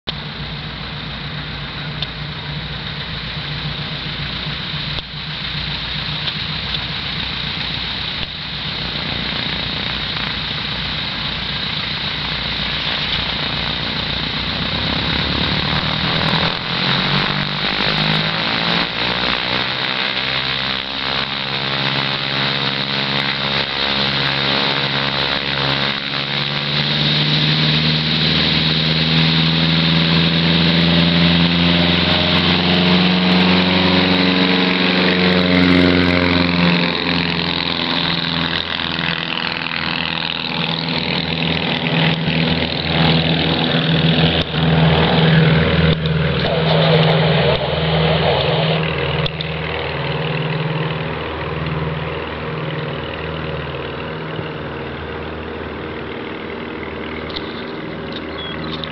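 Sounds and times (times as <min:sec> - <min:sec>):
light aircraft propeller drone: 0:00.0 - 0:58.9.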